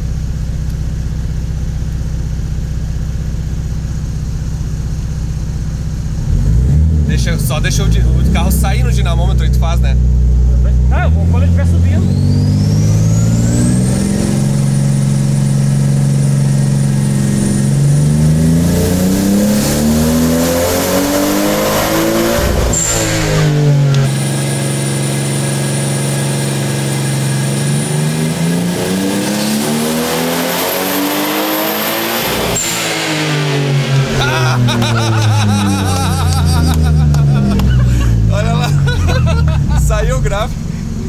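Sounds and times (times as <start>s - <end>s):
car engine revving hard: 6.2s - 41.0s.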